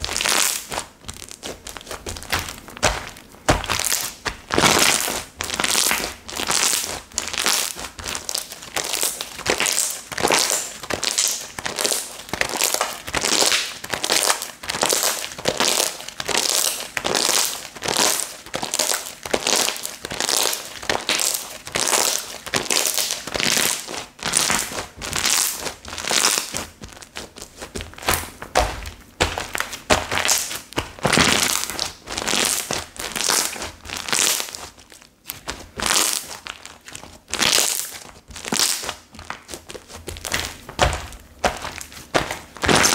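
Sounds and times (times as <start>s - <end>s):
slime squishing: 0.0s - 42.9s.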